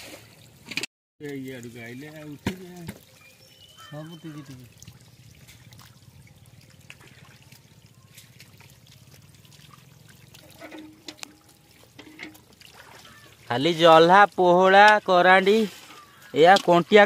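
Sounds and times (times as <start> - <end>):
muddy water sloshing: 0.0 - 17.0
small splashes: 0.0 - 17.0.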